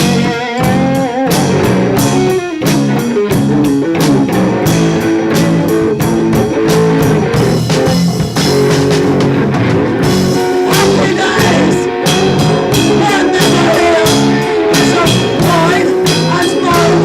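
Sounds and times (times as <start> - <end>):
bass guitar: 0.0 - 17.0
electric guitar: 0.0 - 17.0
steady drum beat: 0.0 - 17.0.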